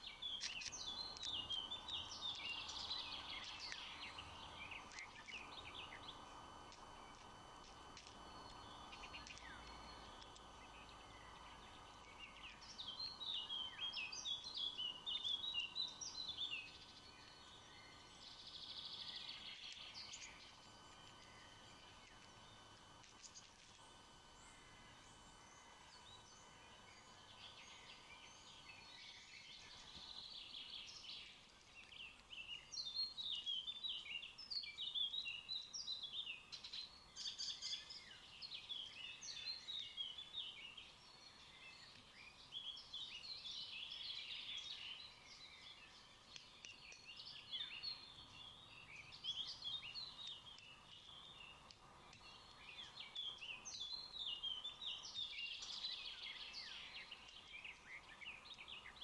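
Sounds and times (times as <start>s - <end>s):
birds chirping and twittering: 0.0s - 59.0s.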